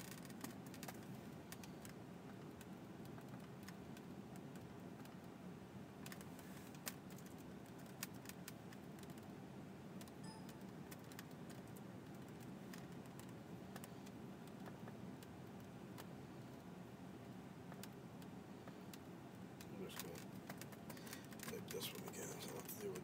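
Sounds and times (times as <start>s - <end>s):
faint keyboard typing: 0.0s - 5.4s, 6.0s - 16.7s, 17.7s - 23.0s
low background hum: 0.0s - 23.0s.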